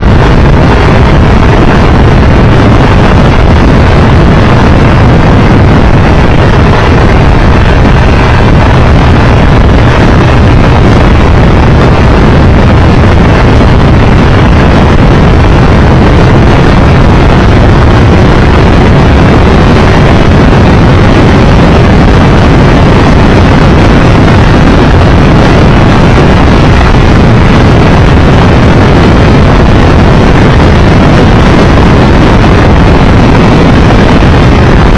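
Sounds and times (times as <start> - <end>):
motorcycle engine drone: 0.0 - 34.9
wind noise on microphone: 0.0 - 34.9.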